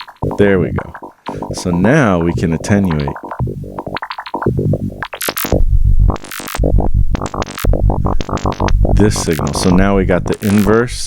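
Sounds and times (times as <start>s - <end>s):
sharp electronic blips: 0.0s - 9.9s
deep bass pulses: 0.0s - 10.3s.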